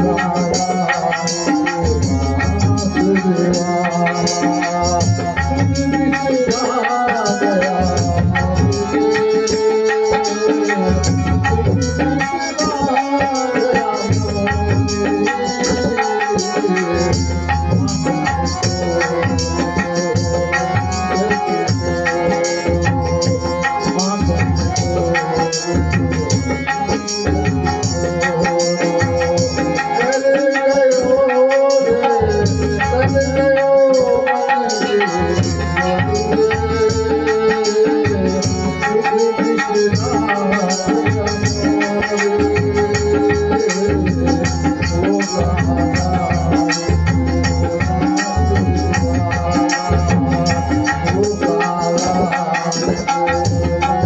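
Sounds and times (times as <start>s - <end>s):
hand drums beating: 0.0s - 54.0s.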